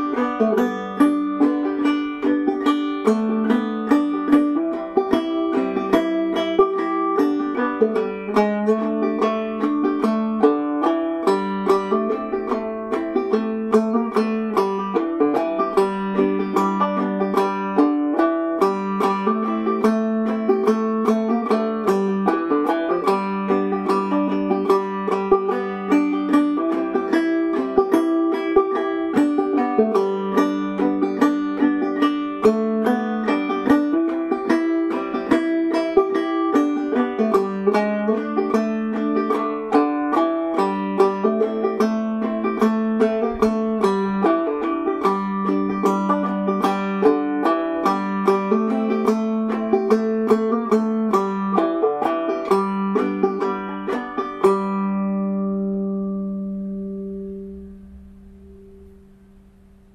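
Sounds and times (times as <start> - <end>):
banjo plucking and strumming: 0.0 - 59.9.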